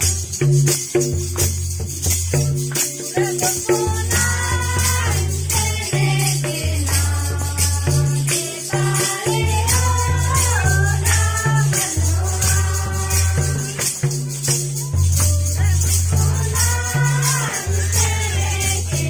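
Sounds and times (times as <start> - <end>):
shaker rhythm: 0.0 - 19.0.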